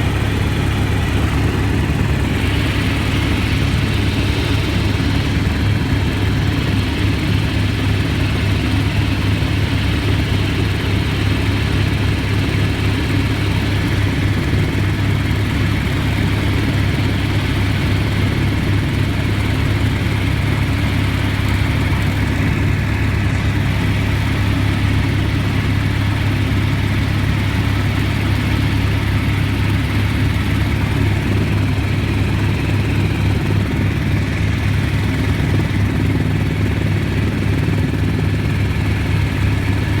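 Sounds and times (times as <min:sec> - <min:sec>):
helicopter engine and rotor drone: 0:00.0 - 0:40.0.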